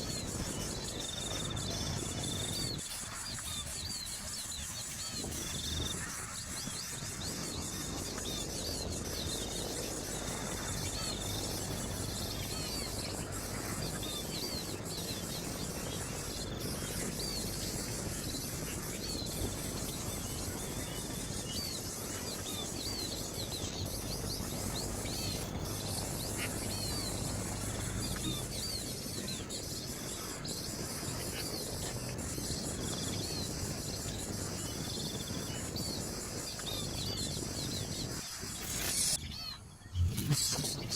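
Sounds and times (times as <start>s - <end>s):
birds chirping: 0.0s - 40.9s
insects buzzing: 0.0s - 40.9s.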